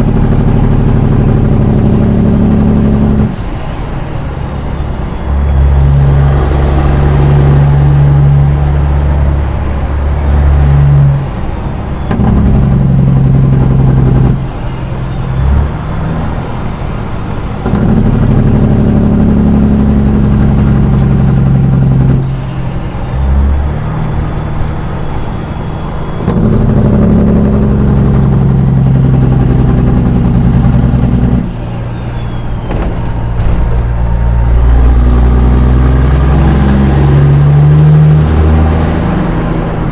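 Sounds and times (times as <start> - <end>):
truck diesel engine shifting gears: 0.0 - 39.9.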